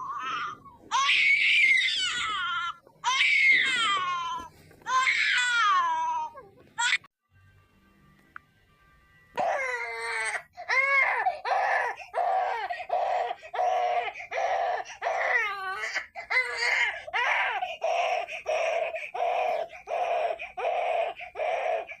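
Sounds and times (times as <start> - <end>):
baby crying: 0.0 - 7.1, 9.4 - 22.0.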